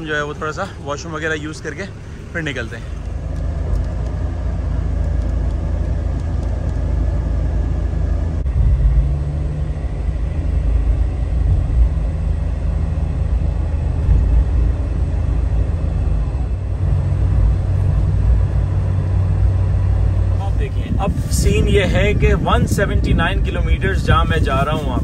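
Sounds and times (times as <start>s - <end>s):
car engine: 0.0s - 25.0s
tyres rumbling on road: 0.0s - 25.0s.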